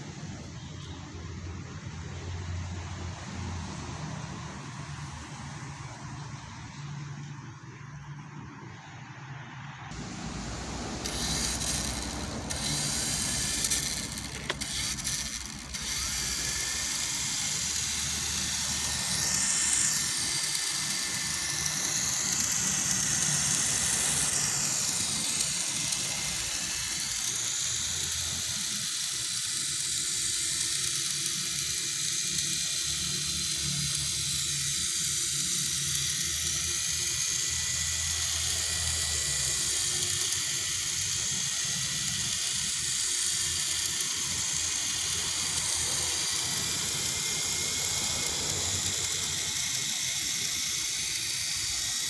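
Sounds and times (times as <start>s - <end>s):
toy helicopter motor whine: 0.0s - 8.9s, 9.9s - 52.0s.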